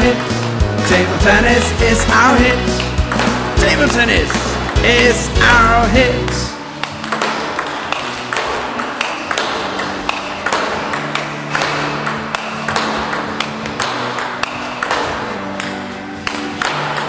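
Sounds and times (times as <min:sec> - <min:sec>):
table tennis ball pinging: 0:00.0 - 0:05.2, 0:05.8 - 0:17.0.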